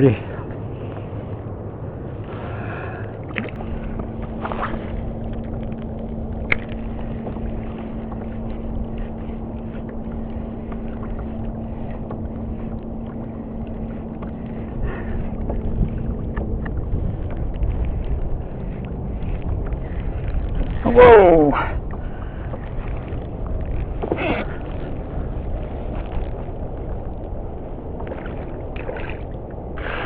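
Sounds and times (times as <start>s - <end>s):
rumble of wind and water: 0.0s - 30.0s.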